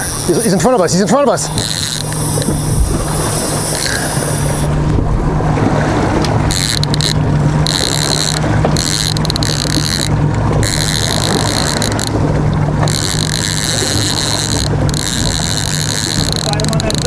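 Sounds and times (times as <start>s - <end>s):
outboard motors humming: 0.0s - 17.0s
wake wash: 0.0s - 17.0s.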